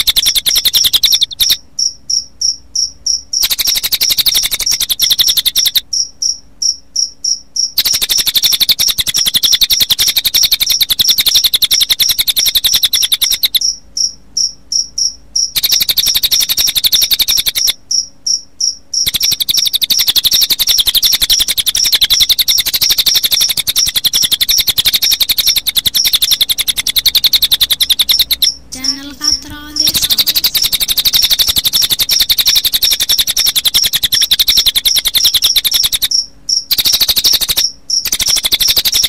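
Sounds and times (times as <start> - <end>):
bird trilling: 0.0 - 6.4, 7.8 - 17.8, 18.6 - 39.0
crickets chirping: 0.0 - 28.9, 29.7 - 39.0.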